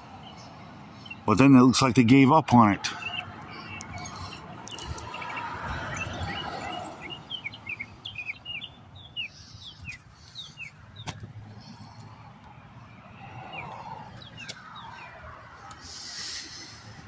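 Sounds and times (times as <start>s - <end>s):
small birds chirping: 0.2s - 1.4s, 2.9s - 12.2s, 12.8s - 16.9s.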